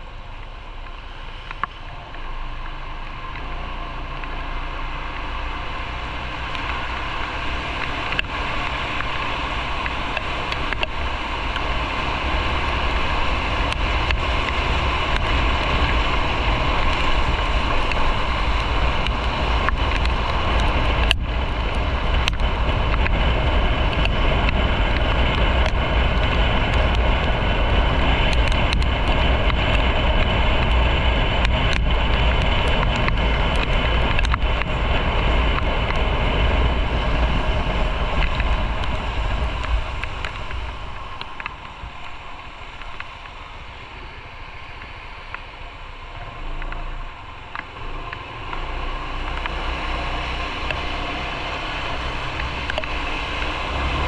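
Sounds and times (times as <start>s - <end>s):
motorcycle engine and road noise: 0.0s - 54.0s
wind rushing over microphone: 0.0s - 54.0s.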